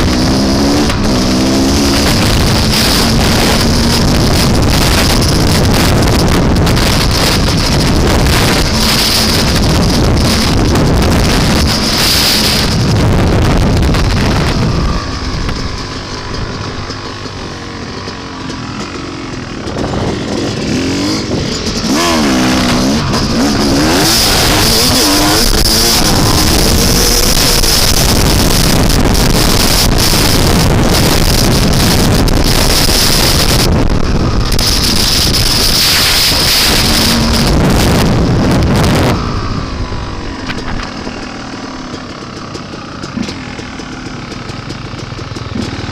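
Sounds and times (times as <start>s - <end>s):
wind buffeting on microphone: 0.0s - 42.6s
dirt bike engine revving: 0.0s - 45.9s.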